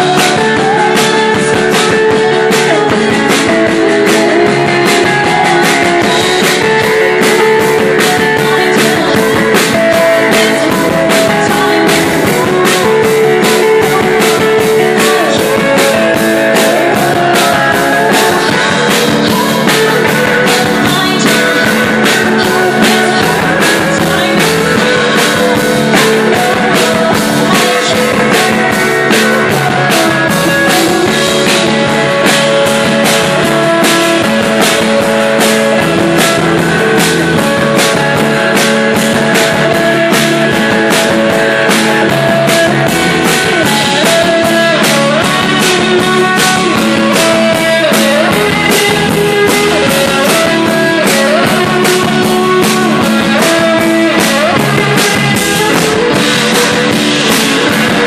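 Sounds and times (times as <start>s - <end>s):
drum kit beat: 0.0s - 58.0s
live pop-rock band: 0.0s - 58.0s.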